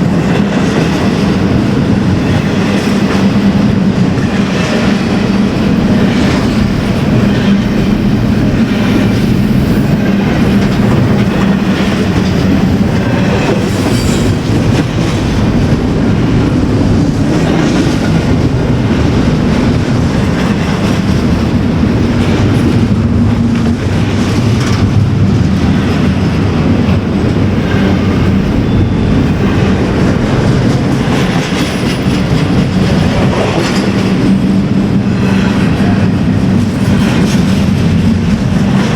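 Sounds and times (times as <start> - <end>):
clickety-clack over rail joints: 0.0 - 38.9
train wheels rumbling on rails: 0.0 - 38.9.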